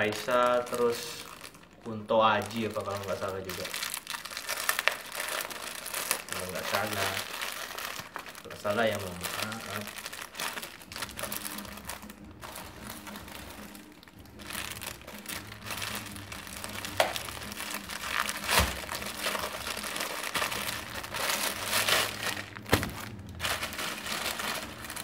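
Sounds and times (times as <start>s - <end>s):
plastic packaging crinkling: 0.0s - 25.0s.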